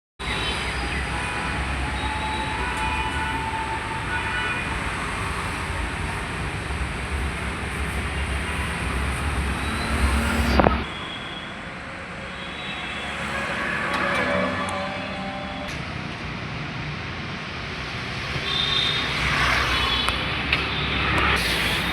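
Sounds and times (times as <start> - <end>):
road traffic noise: 0.2 - 21.9.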